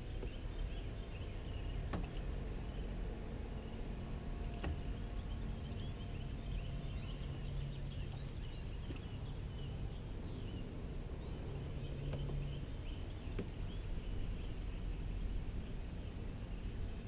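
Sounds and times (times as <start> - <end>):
birds chirping and singing: 0.0 - 3.9, 4.5 - 17.0
low steady rumble: 0.0 - 17.0.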